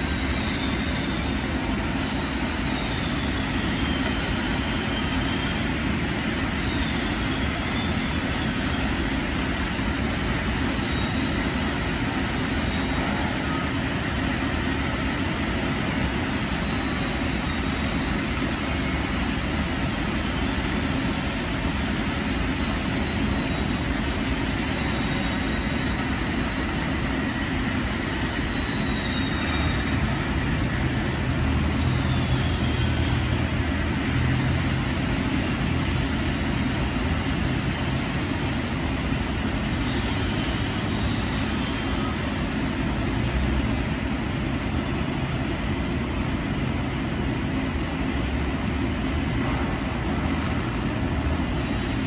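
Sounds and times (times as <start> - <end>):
arc welding noise: 0.0 - 52.0
faint high whine: 0.0 - 52.0.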